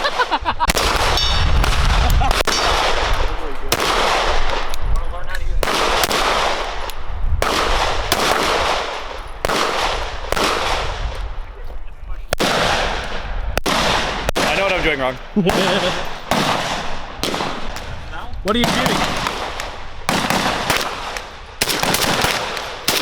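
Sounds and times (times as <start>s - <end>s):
gunshots with echo: 0.0s - 5.0s, 5.6s - 11.4s, 12.3s - 23.0s.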